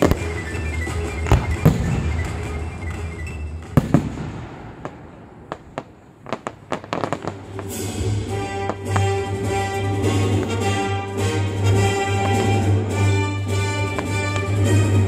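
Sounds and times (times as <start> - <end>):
music playing: 0.0 - 4.5, 6.9 - 15.0
fireworks bangs and pops: 0.0 - 15.0
fireworks crackles: 0.0 - 15.0.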